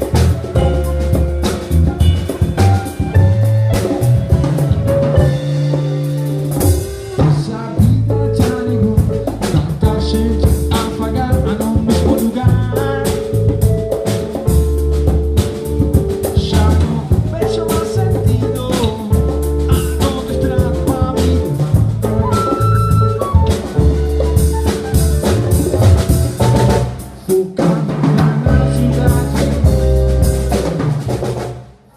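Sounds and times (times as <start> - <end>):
electric bass line: 0.0 - 27.4, 28.2 - 31.6
funk band playing: 0.0 - 31.9.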